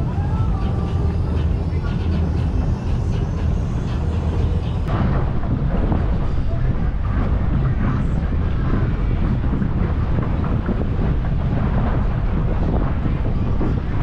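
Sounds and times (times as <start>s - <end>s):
boat engines rumbling: 0.0s - 14.0s
wind noise on microphone: 0.0s - 14.0s.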